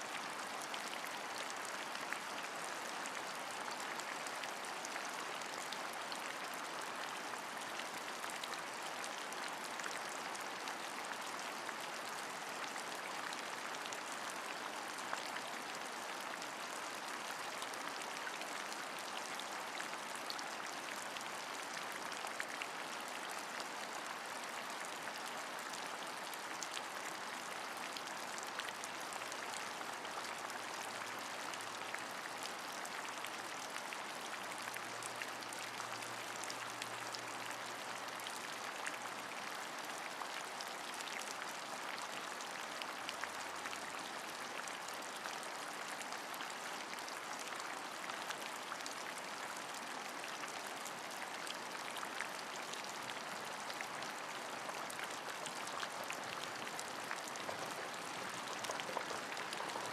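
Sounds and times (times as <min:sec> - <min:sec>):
steady rain hiss: 0:00.0 - 0:42.5, 0:52.4 - 0:59.9.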